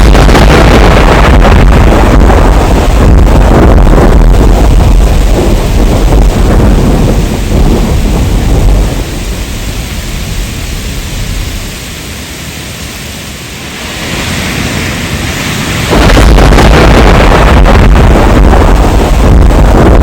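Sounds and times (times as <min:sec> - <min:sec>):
rolling thunder: 0:00.0 - 0:12.0, 0:13.6 - 0:20.0
rain hiss: 0:00.0 - 0:20.0.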